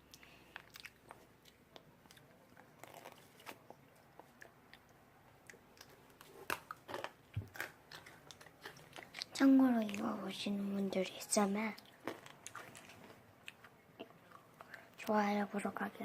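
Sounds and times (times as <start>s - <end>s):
toffee crunching while chewed: 0.0s - 10.2s, 11.7s - 14.9s.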